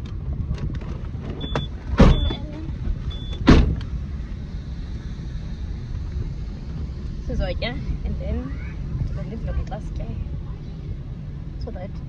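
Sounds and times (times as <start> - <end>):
car rumble while driving: 0.0 - 12.0.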